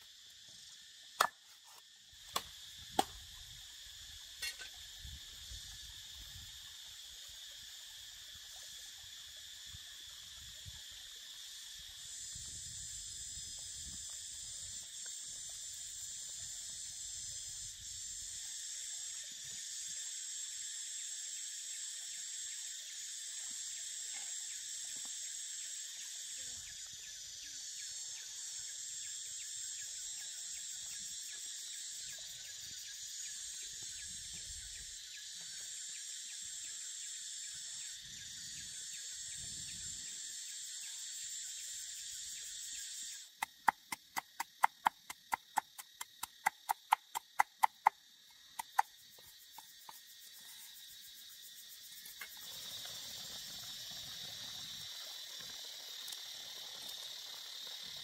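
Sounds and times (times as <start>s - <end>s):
insects chirring chorus: 0.0s - 58.0s.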